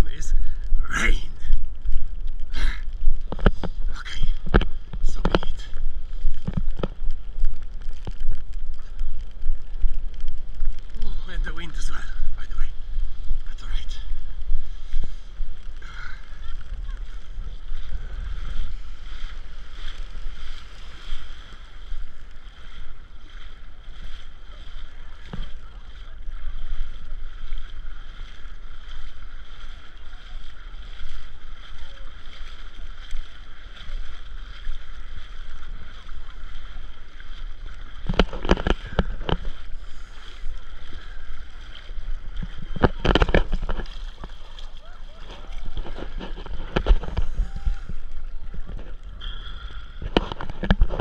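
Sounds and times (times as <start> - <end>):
legs splashing through water: 0.0 - 51.0
wading through shallow water: 0.0 - 51.0
wind buffeting microphone: 0.0 - 51.0.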